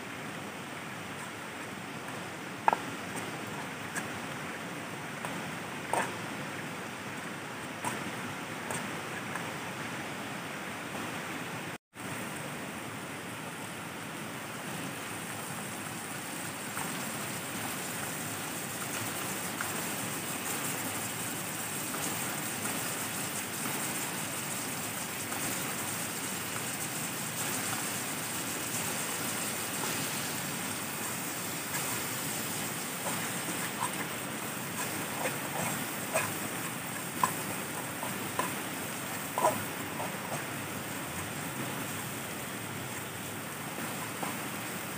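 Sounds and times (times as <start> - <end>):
flowing river water: 0.0 - 44.9.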